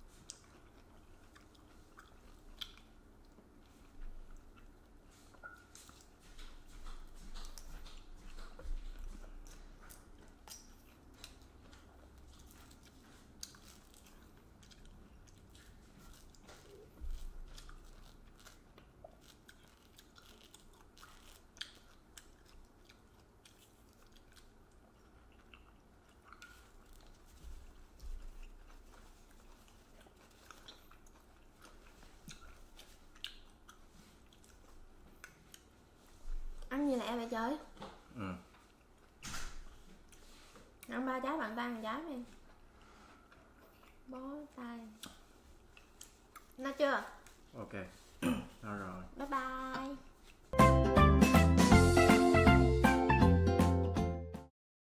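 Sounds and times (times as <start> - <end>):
chewing: 0.0 - 36.8, 37.6 - 41.1, 42.2 - 49.0, 49.6 - 50.6.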